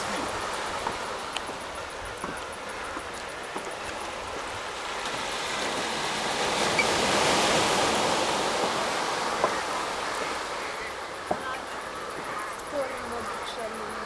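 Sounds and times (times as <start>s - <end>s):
sea surf washing on shore: 0.0s - 14.0s.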